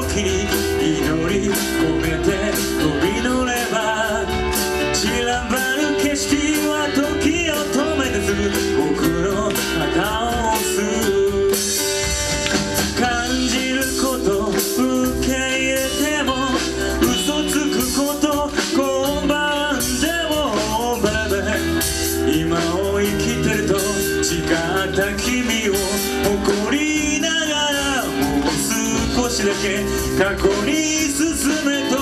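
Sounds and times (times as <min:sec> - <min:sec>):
bass guitar: 0:00.0 - 0:32.0
drums: 0:00.0 - 0:32.0
electric guitar: 0:00.0 - 0:32.0
person singing: 0:00.0 - 0:32.0.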